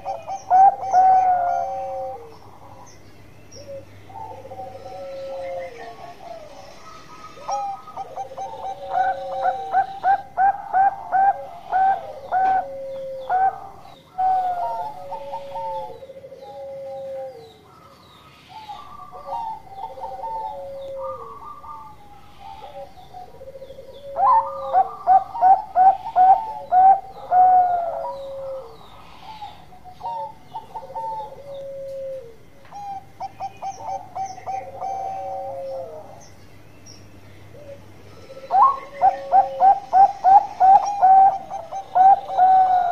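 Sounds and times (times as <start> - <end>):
dove cooing song: 0.0 - 42.9.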